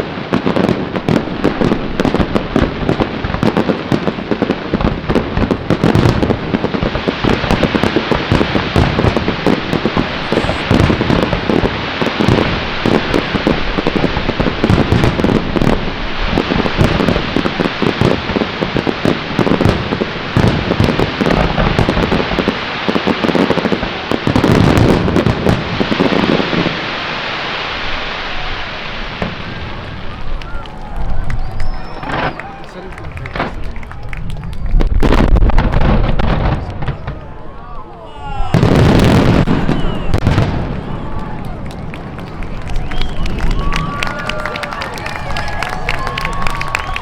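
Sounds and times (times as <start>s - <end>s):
firework crackling: 0.0s - 47.0s
firework shells bursting: 0.0s - 47.0s.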